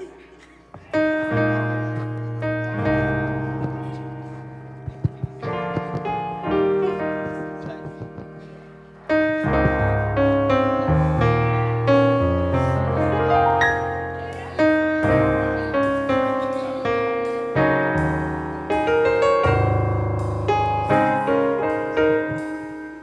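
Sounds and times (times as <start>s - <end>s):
piano playing chords and melody: 0.0s - 23.0s.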